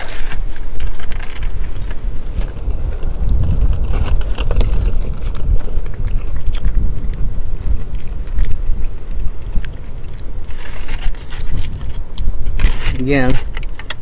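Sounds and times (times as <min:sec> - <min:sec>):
small clicks and crackles: 0:00.0 - 0:14.0
wind buffeting microphone: 0:00.0 - 0:14.0.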